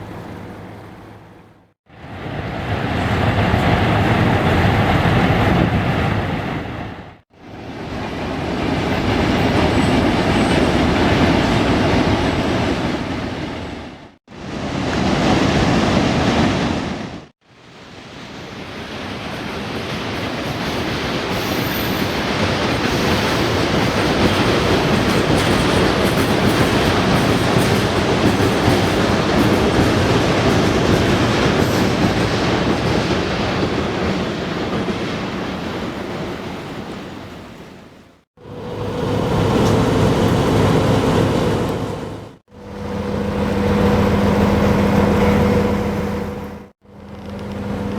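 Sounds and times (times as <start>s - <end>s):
train wheels rumbling on rails: 0.0s - 17.2s, 18.2s - 37.8s, 38.4s - 47.9s.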